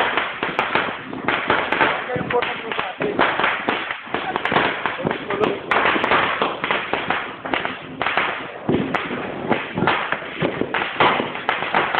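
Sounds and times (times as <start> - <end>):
firecrackers banging: 0.0 - 11.9.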